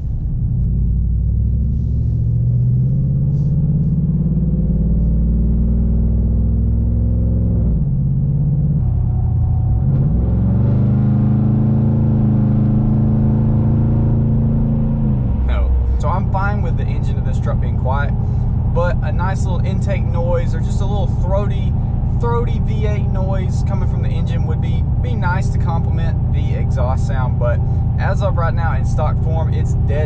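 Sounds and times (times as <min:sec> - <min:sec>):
low engine drone in car: 0:00.0 - 0:30.0.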